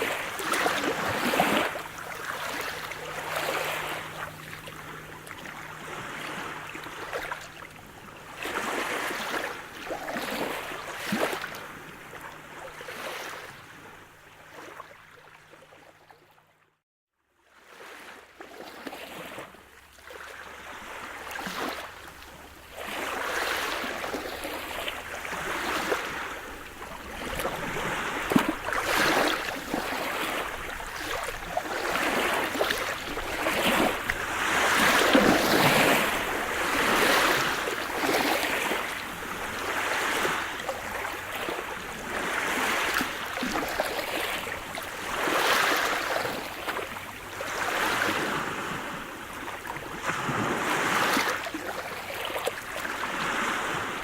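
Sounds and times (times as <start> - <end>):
waves breaking and washing in: 0.0 - 15.8, 17.4 - 54.0.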